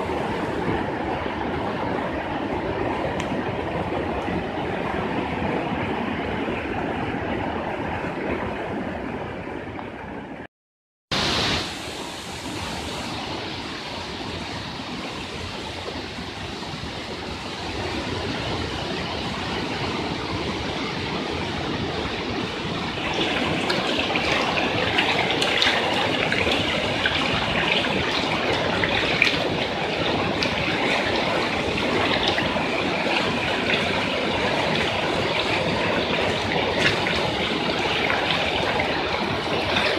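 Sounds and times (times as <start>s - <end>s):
floodwater rushing: 0.0s - 10.5s, 11.1s - 39.9s.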